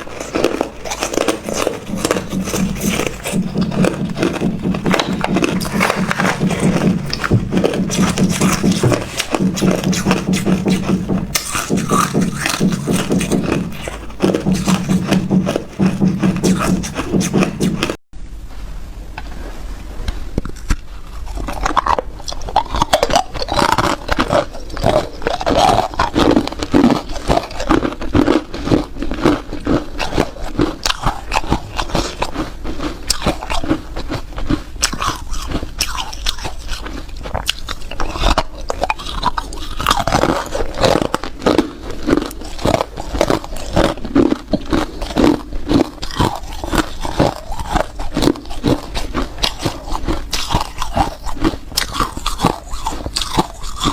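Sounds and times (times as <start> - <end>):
ice being chewed: 0.0 - 18.0, 20.5 - 53.9.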